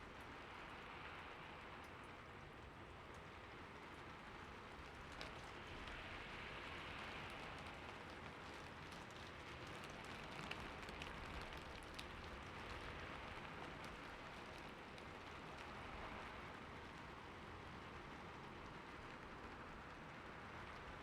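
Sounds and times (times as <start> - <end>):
rain on a roof: 0.0 - 21.0.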